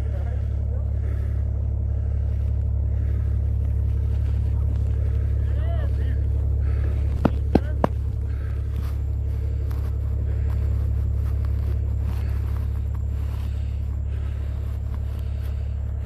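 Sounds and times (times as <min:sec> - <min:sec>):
car engines rumbling: 0:00.0 - 0:16.0.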